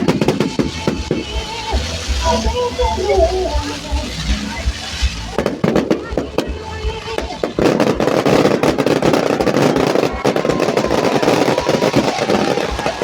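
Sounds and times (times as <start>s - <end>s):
crowd noise: 0.0s - 13.0s
firecrackers banging: 0.0s - 13.0s.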